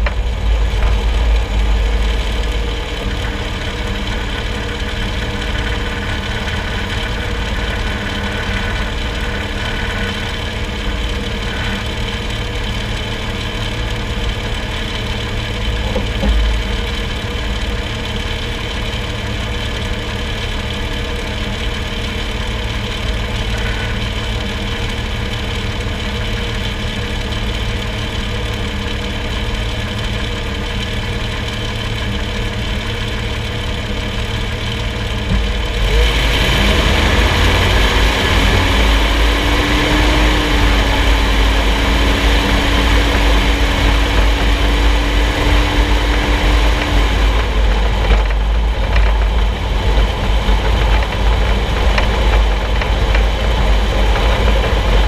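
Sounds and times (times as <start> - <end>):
road and tyre rumble: 0.0 - 55.0
steady whine: 0.0 - 55.0
vehicle engine idling: 0.0 - 55.0.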